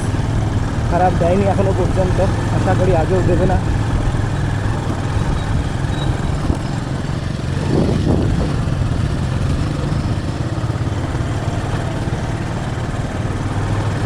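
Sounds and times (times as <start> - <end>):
motorcycle engine climbing under load: 0.0 - 14.0.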